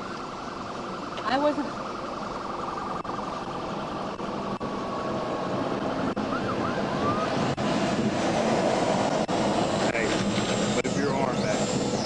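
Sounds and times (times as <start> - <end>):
emergency vehicle siren wailing: 0.0 - 12.0
engine and road noise rumble: 0.0 - 12.0.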